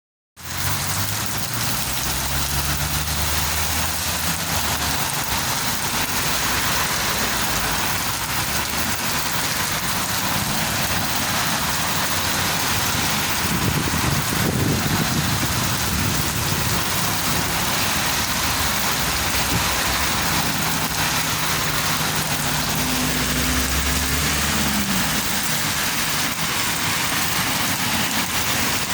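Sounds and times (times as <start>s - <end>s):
heavy rain: 0.4s - 28.9s.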